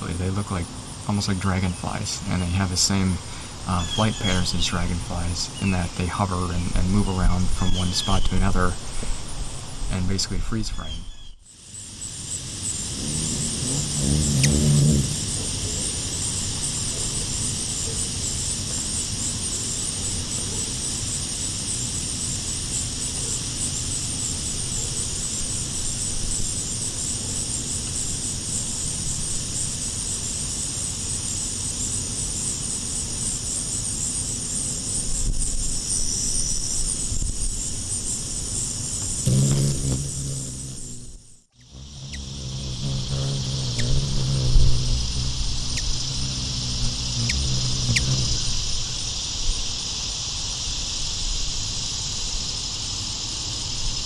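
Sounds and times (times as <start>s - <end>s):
hummingbird wingbeats: 0.0s - 49.3s
pulsing insect chorus: 0.0s - 54.0s.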